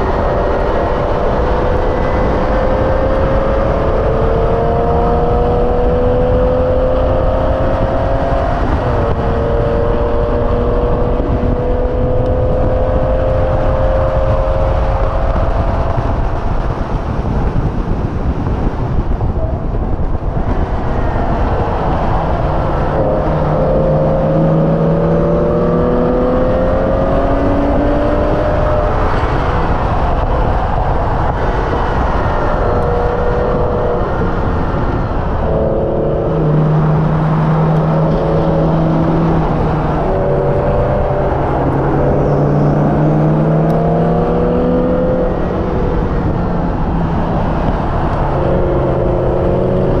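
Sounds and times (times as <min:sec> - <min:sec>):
car engine revving: 0:00.0 - 0:50.0
wind and tyre noise: 0:00.0 - 0:50.0.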